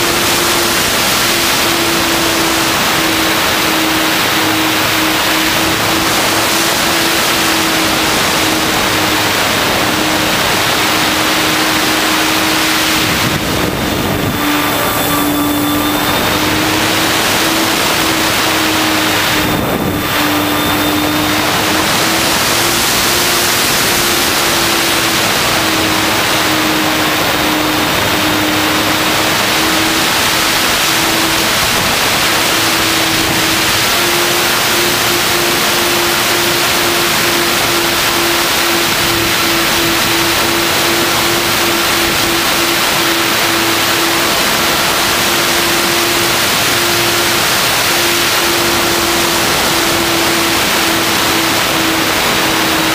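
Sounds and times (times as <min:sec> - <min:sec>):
model airplane motor humming: 0:00.0 - 0:52.9
wind rushing over microphone: 0:00.0 - 0:52.9.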